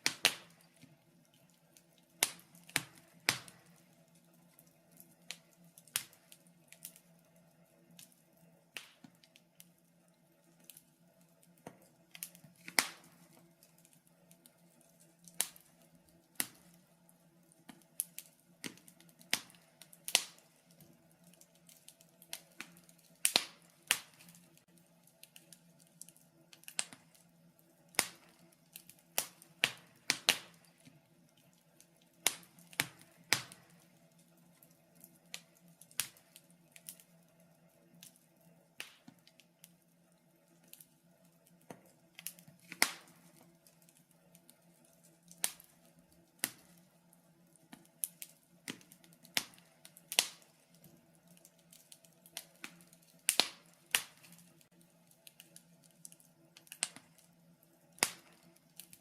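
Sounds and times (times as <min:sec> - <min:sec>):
faint steady hum: 0:00.0 - 0:59.0
wood fire crackling and popping: 0:00.0 - 0:59.0.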